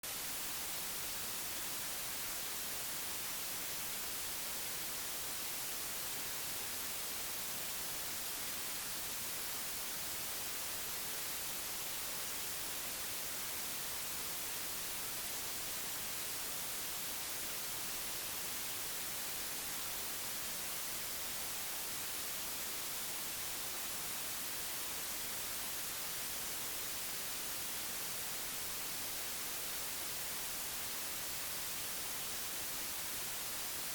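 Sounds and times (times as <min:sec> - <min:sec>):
steady white noise hiss: 0:00.0 - 0:33.9.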